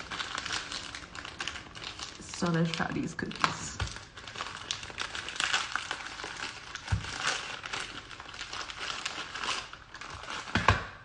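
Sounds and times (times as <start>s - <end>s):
crunchy cookie chewing: 0.0s - 10.7s.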